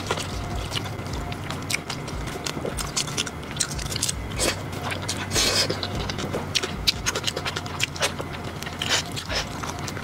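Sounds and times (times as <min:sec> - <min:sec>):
person chewing with smacking clicks: 0:00.0 - 0:10.0.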